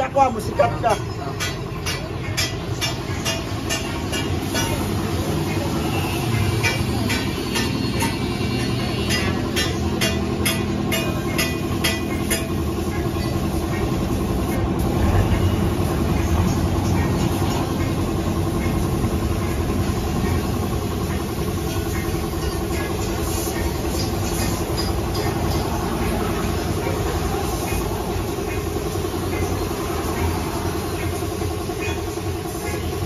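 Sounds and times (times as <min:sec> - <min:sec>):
air compressor humming: 0:00.0 - 0:33.0.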